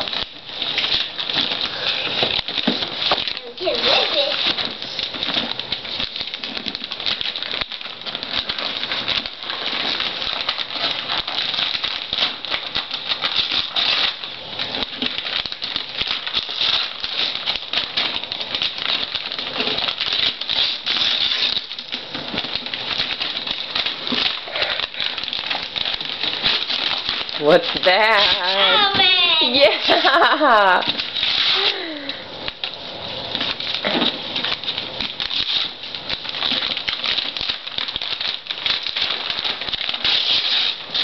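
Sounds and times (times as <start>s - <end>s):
wrapping paper tearing: 0.0s - 41.0s.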